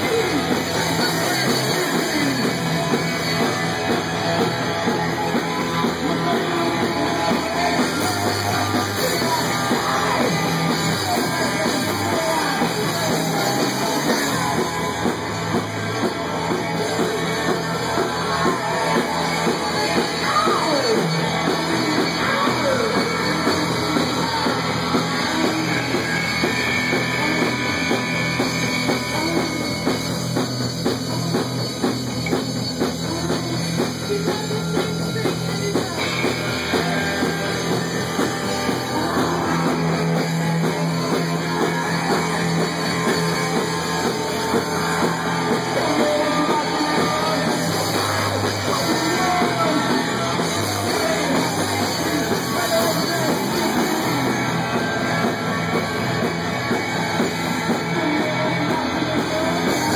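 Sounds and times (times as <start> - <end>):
drum kit: 0.0 - 59.9
live punk rock band: 0.0 - 59.9.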